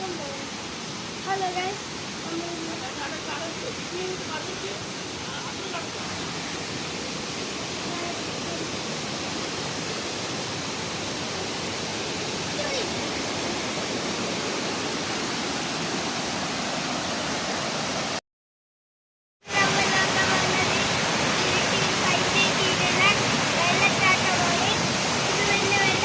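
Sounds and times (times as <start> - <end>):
waterfall roaring: 0.0 - 18.2, 19.5 - 26.0.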